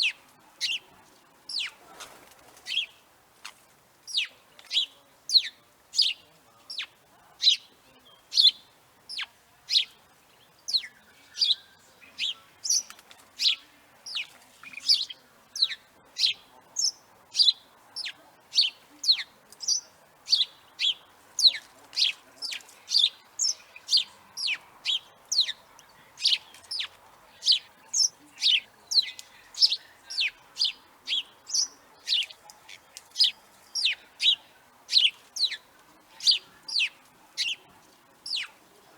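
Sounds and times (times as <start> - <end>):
sparrow chirping: 0.0 - 2.0, 2.6 - 38.9.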